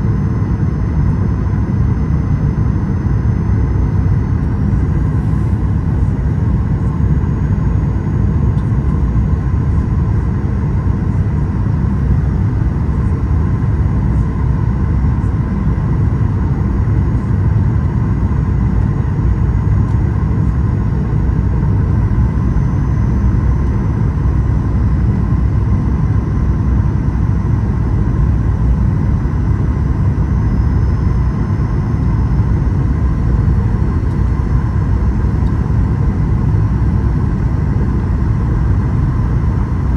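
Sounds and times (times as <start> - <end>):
airliner cabin drone: 0.0 - 39.9
faint steady whine: 0.0 - 39.9.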